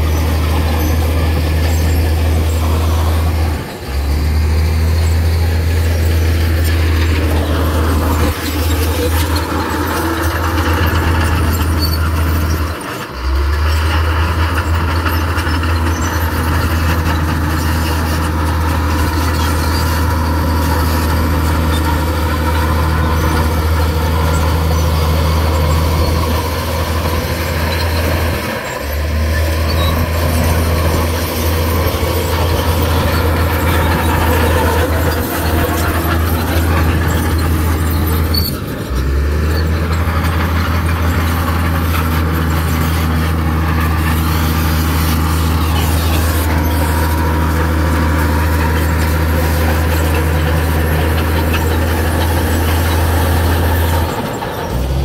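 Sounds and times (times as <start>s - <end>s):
diesel machinery engine drone: 0.0s - 55.0s.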